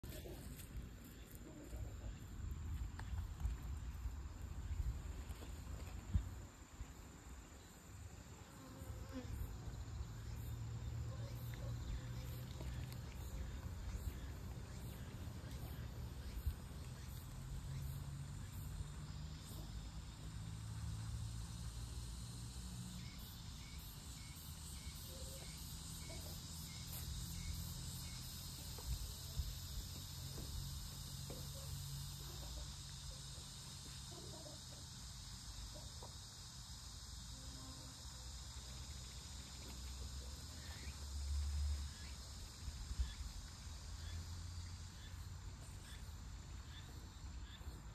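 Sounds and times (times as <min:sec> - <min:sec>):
insect chirps: 0:00.0 - 0:47.9.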